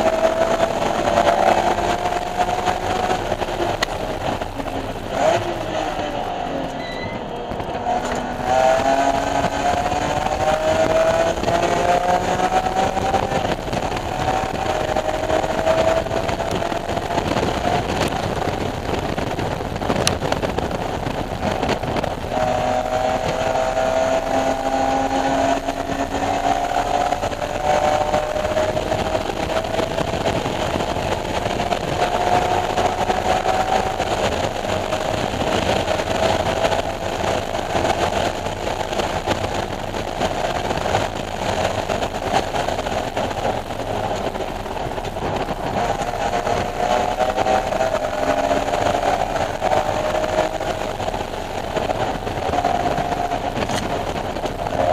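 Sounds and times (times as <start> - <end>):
car engine running hard: 0.0 - 54.9
wind and road noise: 0.0 - 54.9.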